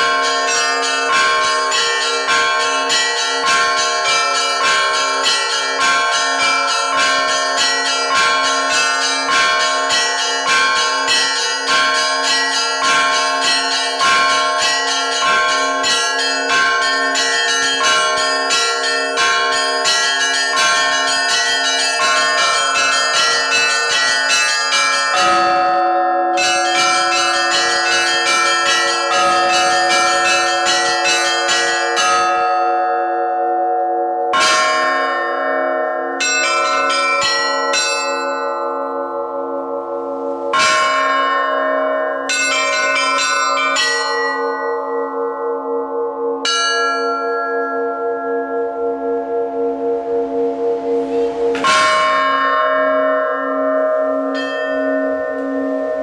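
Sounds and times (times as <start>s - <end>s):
deep bell tolling: 0.0s - 56.0s
small church bells ringing quickly: 0.0s - 56.0s.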